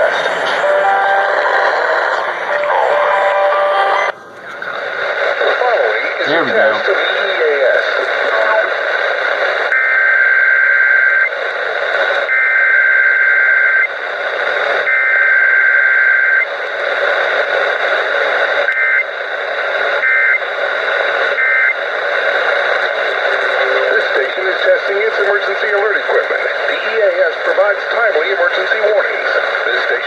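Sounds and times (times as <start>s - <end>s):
steady radio hiss: 0.0s - 30.0s.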